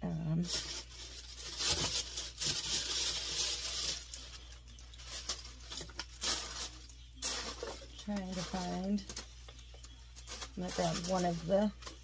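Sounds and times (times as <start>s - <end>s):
packaging rustling and crinkling: 0.4s - 12.0s.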